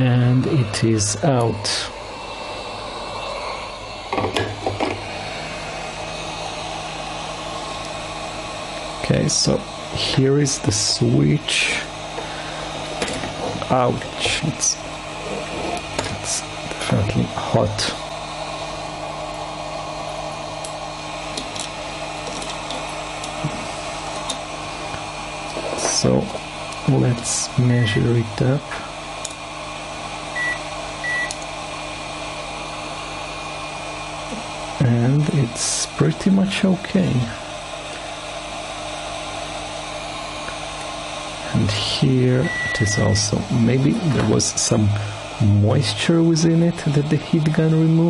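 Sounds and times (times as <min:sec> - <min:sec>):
heat gun blowing: 0:00.0 - 0:48.0.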